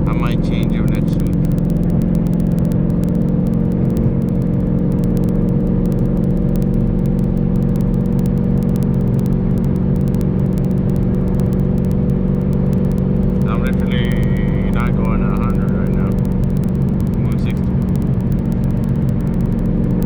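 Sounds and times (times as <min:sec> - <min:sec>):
faint clicks: 0:00.0 - 0:20.0.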